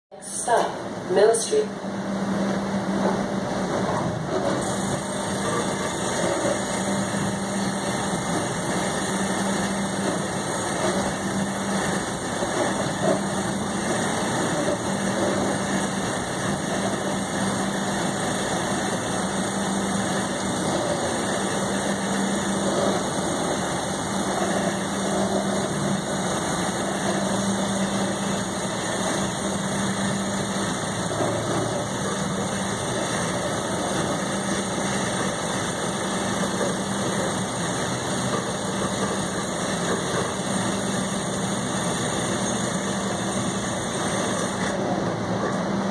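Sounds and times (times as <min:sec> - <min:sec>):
streetcar cabin noise: 0:00.1 - 0:45.9.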